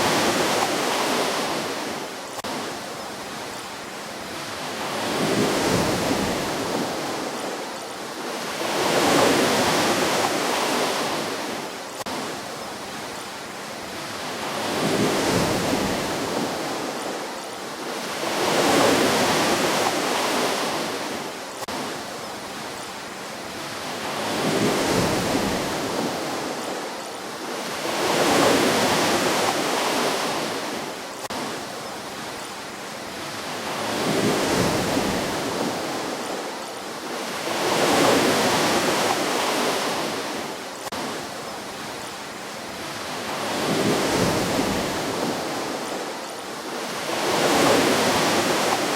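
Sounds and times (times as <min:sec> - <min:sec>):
ocean waves breaking on shore: 0:00.0 - 0:48.9.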